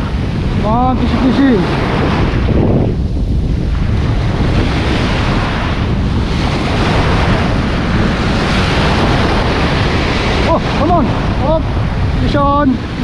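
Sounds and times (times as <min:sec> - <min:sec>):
sea waves breaking on beach: 0:00.0 - 0:13.0
wind buffeting microphone: 0:00.0 - 0:13.0.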